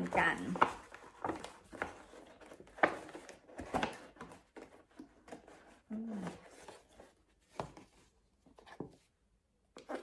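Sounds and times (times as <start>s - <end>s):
gift wrapping rustling: 0.0s - 9.2s.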